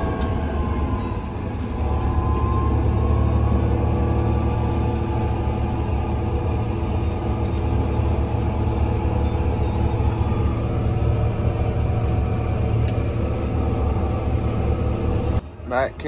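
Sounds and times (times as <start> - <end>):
tractor engine droning: 0.0 - 15.7.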